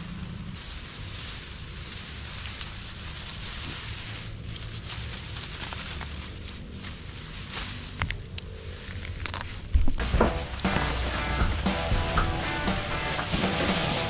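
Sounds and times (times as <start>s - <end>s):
grass crackling and snapping: 0.0s - 14.0s
grass leaves rustling: 0.0s - 14.0s.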